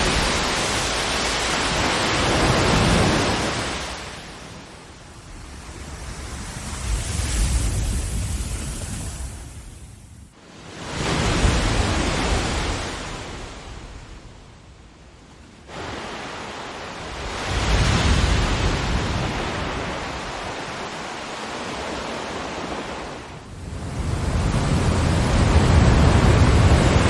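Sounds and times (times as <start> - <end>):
ocean waves washing ashore: 0.0 - 27.0.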